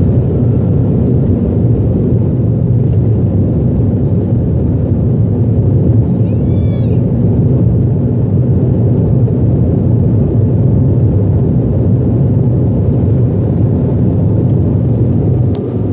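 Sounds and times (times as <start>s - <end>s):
jet engines rumbling in cabin: 0.0s - 15.9s.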